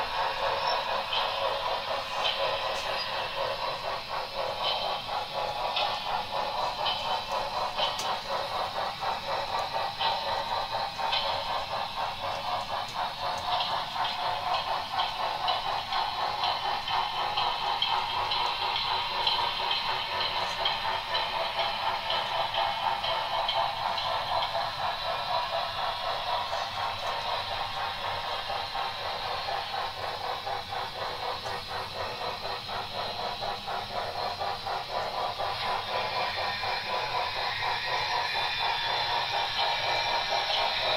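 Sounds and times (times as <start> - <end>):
model train wheels clattering: 0.0 - 40.9.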